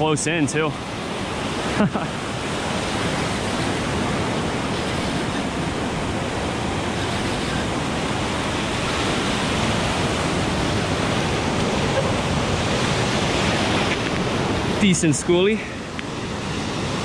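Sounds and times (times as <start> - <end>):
ocean surf washing around rock: 0.0 - 17.0.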